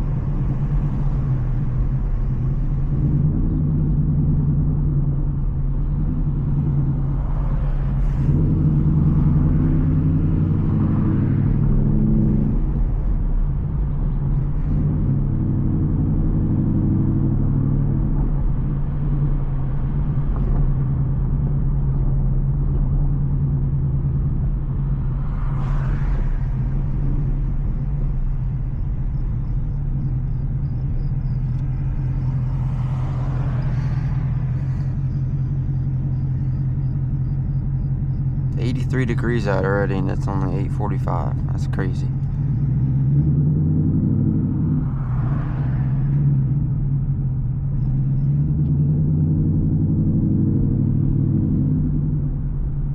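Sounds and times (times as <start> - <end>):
car exhaust drone: 0.0 - 52.9.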